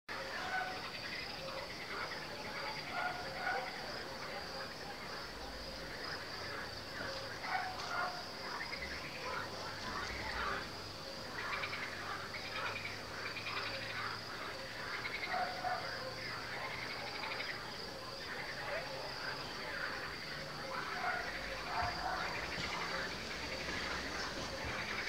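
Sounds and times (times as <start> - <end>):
crickets trilling: 0.1 - 25.0
frogs calling: 0.1 - 25.0.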